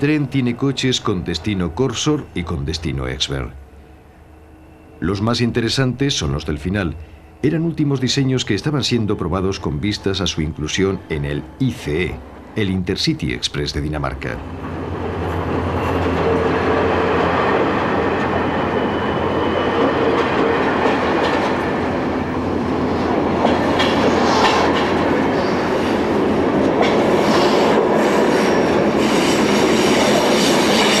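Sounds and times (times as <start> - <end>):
train wheels rumbling on rails: 6.0 - 31.0.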